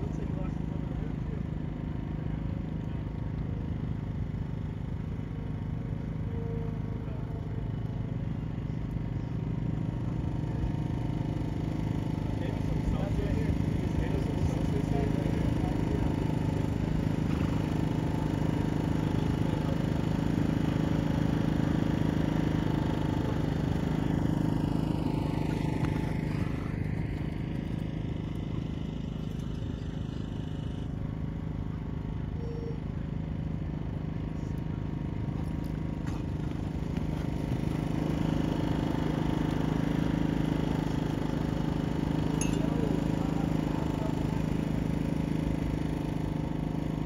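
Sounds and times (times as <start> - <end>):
low engine drone: 0.0 - 47.0.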